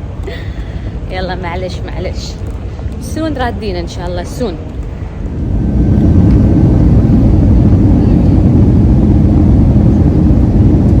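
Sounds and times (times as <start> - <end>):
low vehicle noise: 0.0 - 11.0.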